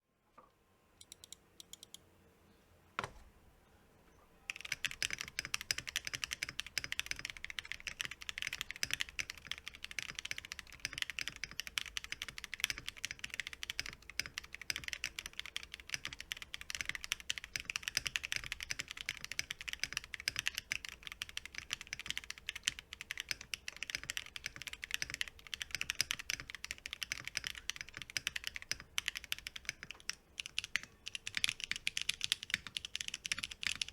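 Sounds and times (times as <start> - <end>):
typing on mechanical keyboard: 1.0 - 2.0, 4.5 - 33.9.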